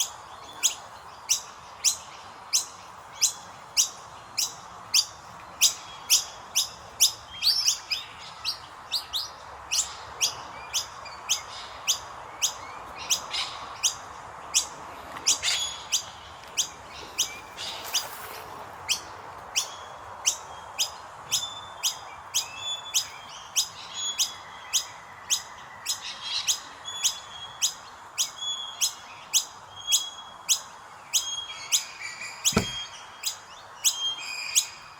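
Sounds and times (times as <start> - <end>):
bird chicks chirping: 0.0 - 34.8.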